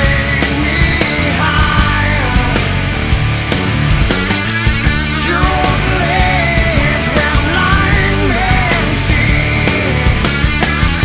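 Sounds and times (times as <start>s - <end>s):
rock music with drums: 0.0s - 11.0s.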